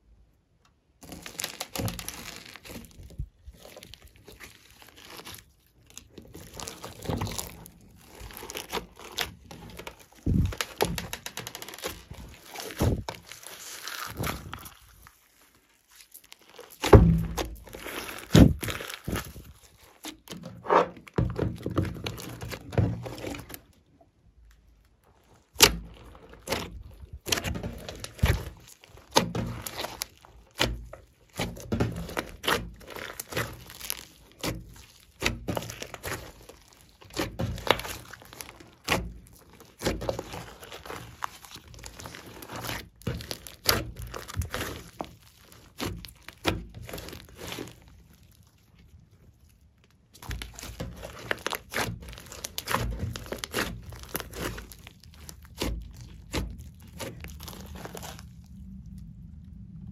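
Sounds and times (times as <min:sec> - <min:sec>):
slime squishing and popping: 0:01.0 - 0:59.9.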